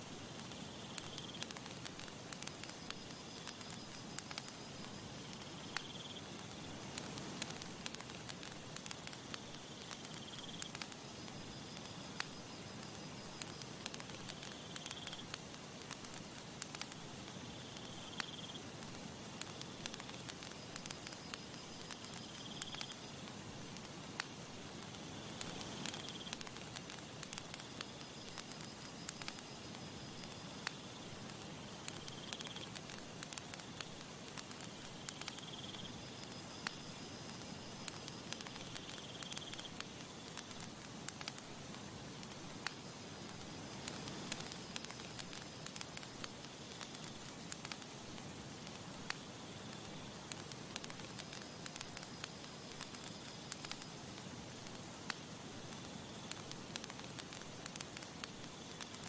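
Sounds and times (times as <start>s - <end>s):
breeze hissing: 0.0s - 59.0s
campfire crackling: 0.0s - 59.0s.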